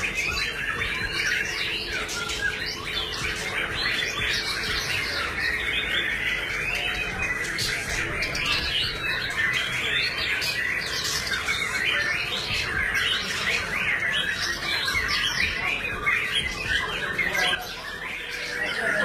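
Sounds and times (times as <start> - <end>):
songbirds chirping and whistling: 0.0 - 19.0.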